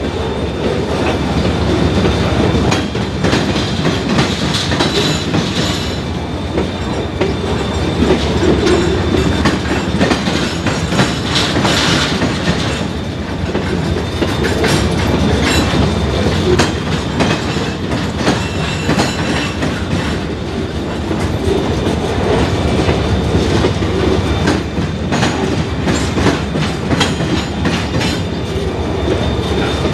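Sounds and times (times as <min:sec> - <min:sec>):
train wheels clicking over rail joints: 0:00.0 - 0:29.9.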